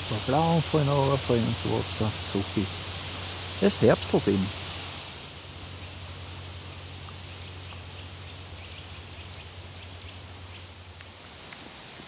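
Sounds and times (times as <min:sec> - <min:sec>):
steady soft hiss: 0:00.0 - 0:12.0.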